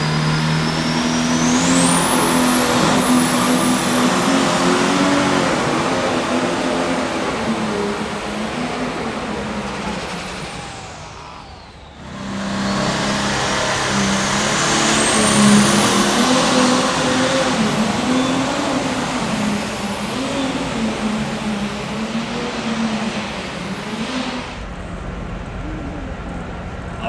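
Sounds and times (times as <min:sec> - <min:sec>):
engine at full throttle: 0:00.0 - 0:27.0
turbocharger whine: 0:00.0 - 0:27.0.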